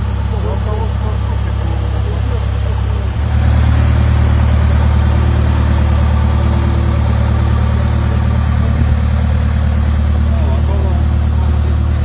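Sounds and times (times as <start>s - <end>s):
road roller diesel engine humming: 0.0s - 12.0s.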